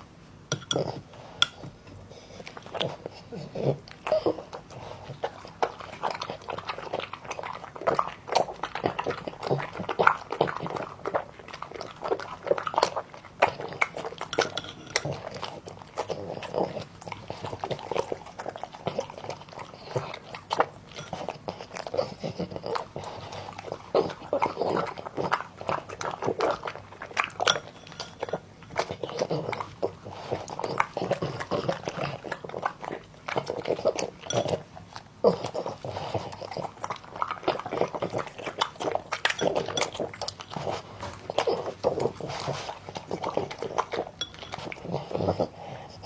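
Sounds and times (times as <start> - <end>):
dog crunching food: 0.6 - 46.0.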